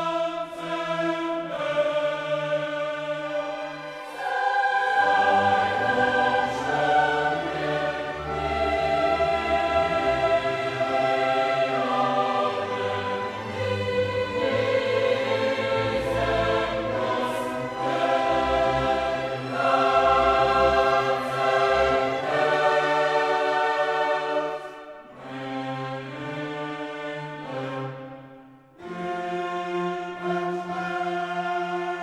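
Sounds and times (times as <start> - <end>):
slow choral and orchestral music: 0.0 - 32.0.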